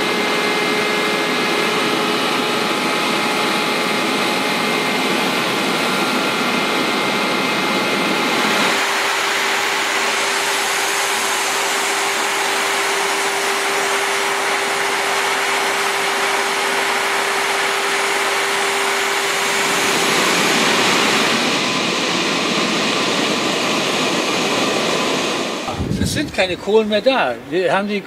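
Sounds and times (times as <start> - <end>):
loud machinery noise: 0.0 - 28.0
machine noise with higher tones: 0.0 - 28.0
steady hum: 0.0 - 28.0.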